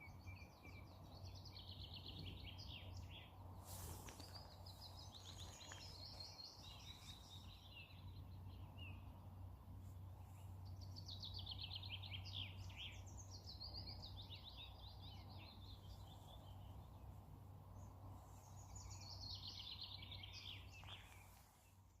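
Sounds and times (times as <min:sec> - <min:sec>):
faint low outdoor hum: 0:00.0 - 0:22.0
songbird singing: 0:00.0 - 0:22.0.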